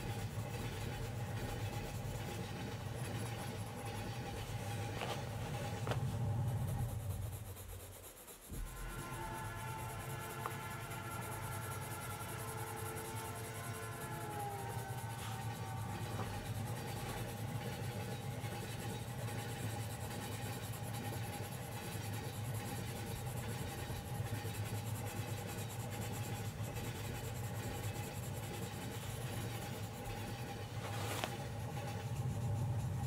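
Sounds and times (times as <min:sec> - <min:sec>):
thin steady whine: 0:00.0 - 0:33.0
train rumble inside carriage: 0:00.0 - 0:33.0.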